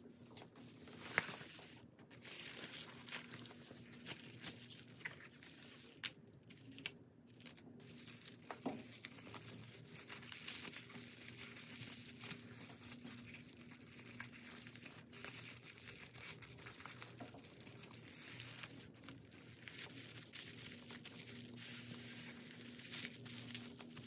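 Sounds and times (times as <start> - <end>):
packaging crinkling and rustling: 0.1 - 24.0
packaging tearing: 2.2 - 24.0.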